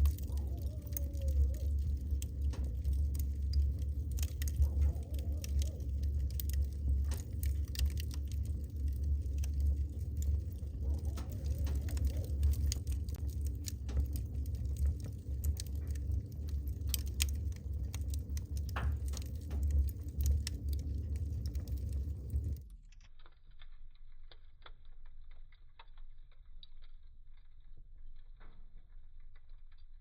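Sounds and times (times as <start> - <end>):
low rumble: 0.0 - 30.0
wood fire crackling and popping: 0.0 - 30.0.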